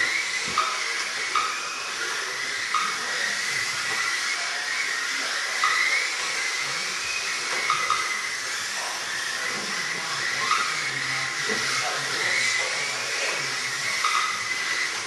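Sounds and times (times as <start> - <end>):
rc cars whining: 0.0 - 15.0
small electric motors hissing: 0.0 - 15.0.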